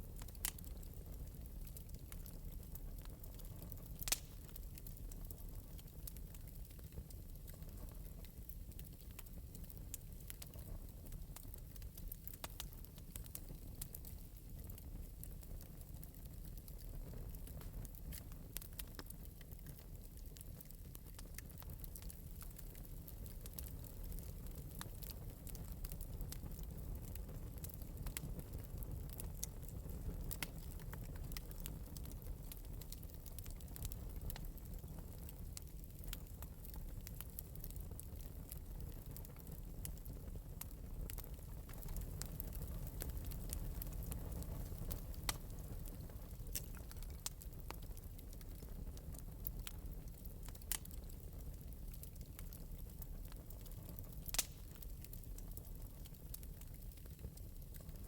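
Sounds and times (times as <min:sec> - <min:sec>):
flame rumble: 0:00.0 - 0:58.0
wood fire crackling: 0:00.0 - 0:58.0.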